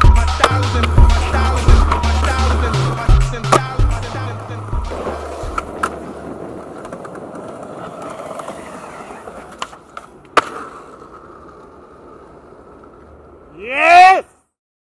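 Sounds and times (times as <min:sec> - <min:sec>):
skateboard clacks: 0:00.0 - 0:13.4
skateboard wheels rolling on concrete: 0:00.0 - 0:14.5.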